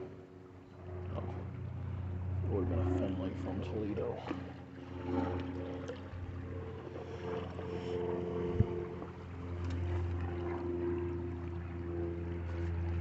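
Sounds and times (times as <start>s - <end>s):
engine-like drone with pitched tones: 0.0s - 13.0s.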